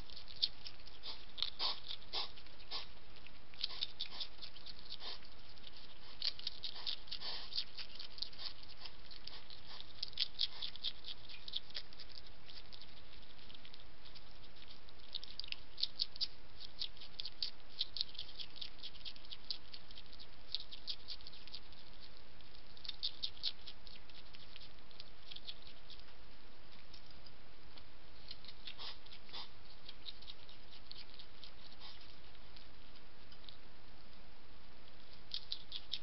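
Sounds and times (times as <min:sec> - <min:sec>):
hedgehog crunching dry food: 0:00.0 - 0:33.7, 0:34.8 - 0:36.0.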